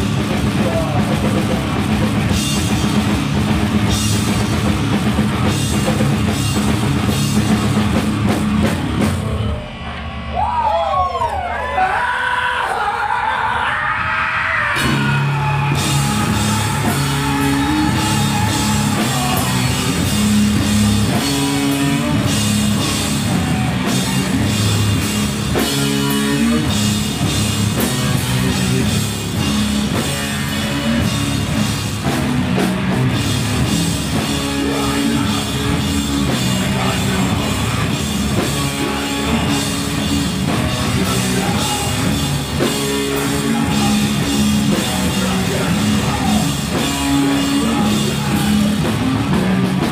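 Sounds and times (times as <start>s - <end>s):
drum kit with cymbals: 0.0s - 9.8s, 14.8s - 49.9s
distorted electric guitar riff: 0.0s - 10.4s, 14.4s - 49.9s
bass guitar: 0.0s - 11.7s, 14.0s - 49.9s.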